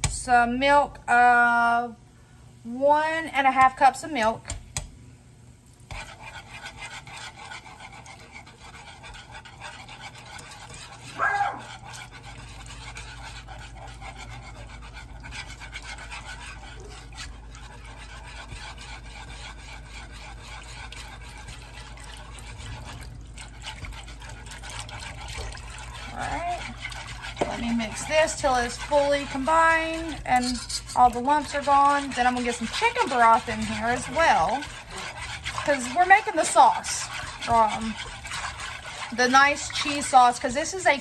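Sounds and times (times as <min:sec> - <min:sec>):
whisk scraping in a pot: 0:03.0 - 0:04.9, 0:05.8 - 0:41.0.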